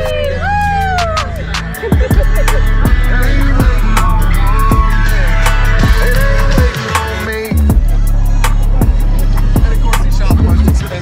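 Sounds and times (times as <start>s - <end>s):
music with steady beat and deep bass: 0.0s - 11.0s.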